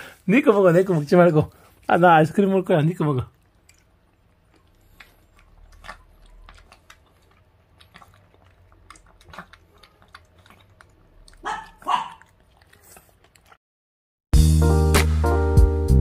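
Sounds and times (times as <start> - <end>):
puppy chewing and lapping food: 0.0 - 13.6.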